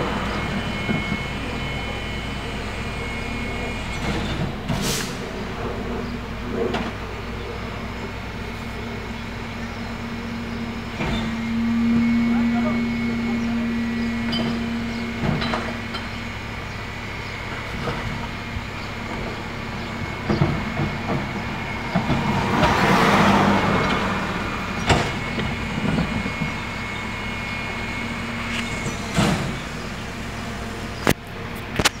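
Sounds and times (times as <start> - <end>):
garbage truck running: 0.0 - 32.0
trash carts clunking on hopper: 0.0 - 32.0.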